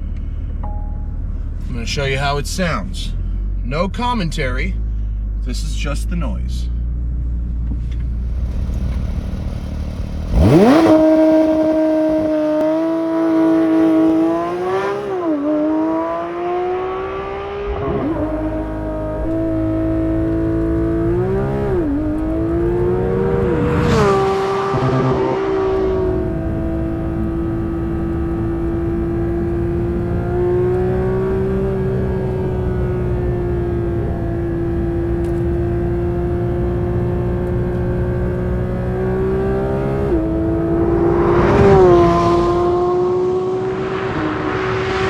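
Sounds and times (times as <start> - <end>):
sports car engine revving and idling: 0.0 - 45.0.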